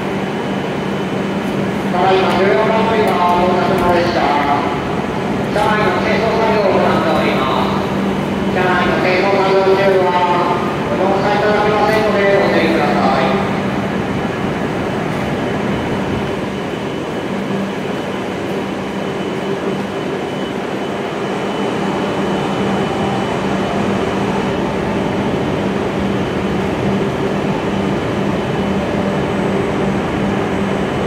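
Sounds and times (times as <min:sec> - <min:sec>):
train fans humming: 0:00.0 - 0:31.0
faint high whine: 0:00.2 - 0:31.0.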